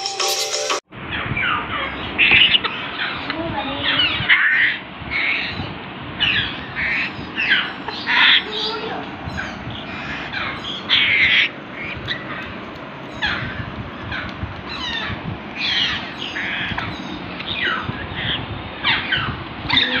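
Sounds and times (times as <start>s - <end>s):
parrot chicks harsh calls: 1.1s - 20.0s.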